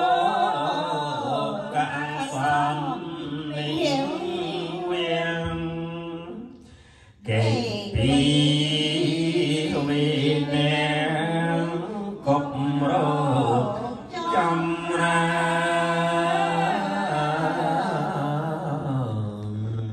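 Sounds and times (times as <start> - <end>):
group chanting in unison: 0.0 - 6.5, 7.2 - 19.9.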